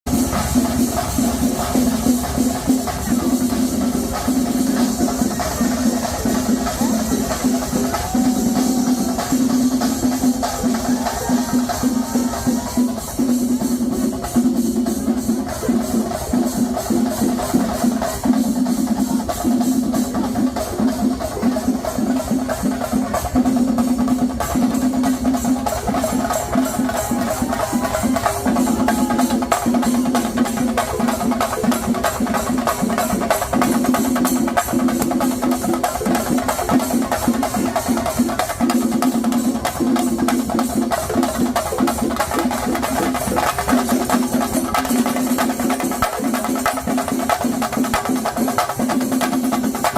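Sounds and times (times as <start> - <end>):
fast temple drumming: 0.0 - 49.9.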